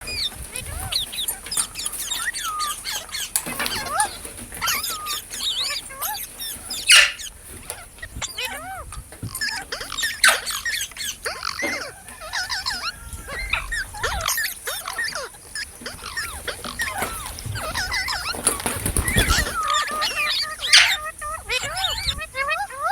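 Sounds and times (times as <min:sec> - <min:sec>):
parrot squawks: 0:00.0 - 0:22.9
parrots chirping and chattering: 0:00.0 - 0:22.9.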